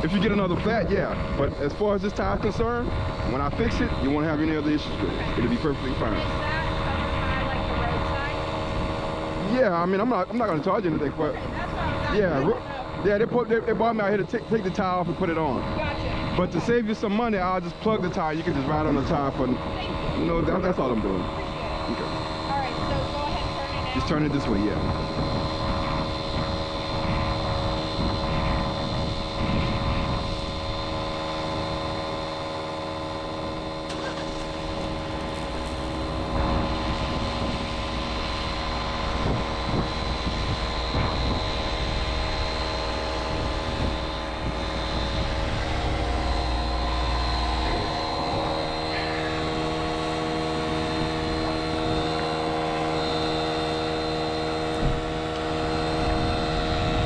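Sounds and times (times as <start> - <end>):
deeper rumble: 0.0 - 57.0
vehicle engine running: 0.0 - 57.0.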